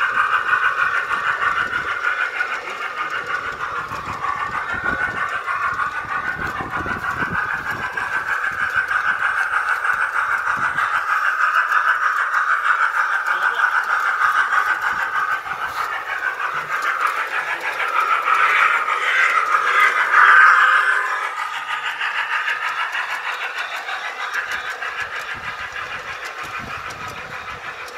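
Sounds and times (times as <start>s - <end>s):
tinny model train sound effects: 0.0s - 27.9s.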